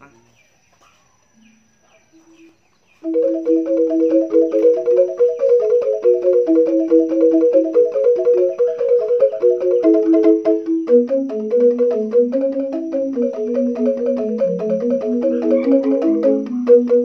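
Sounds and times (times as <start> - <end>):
bamboo xylophone struck with mallets: 3.0 - 17.0.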